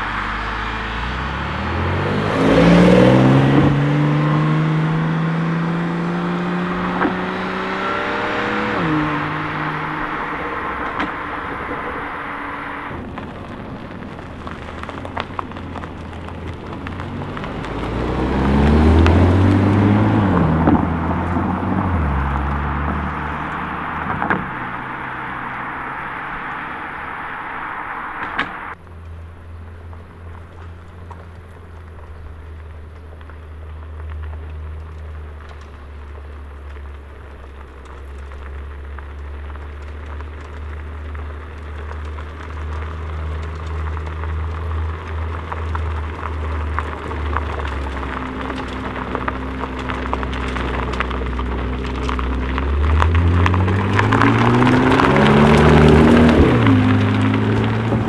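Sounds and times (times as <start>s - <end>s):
car engine rumbling and revving: 0.0s - 58.0s
crackling noise: 0.0s - 58.0s.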